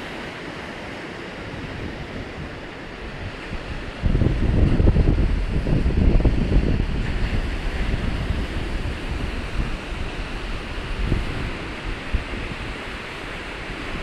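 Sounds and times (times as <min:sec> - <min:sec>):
surf washing onto shore: 0:00.0 - 0:14.0
wind buffeting microphone: 0:00.0 - 0:14.0.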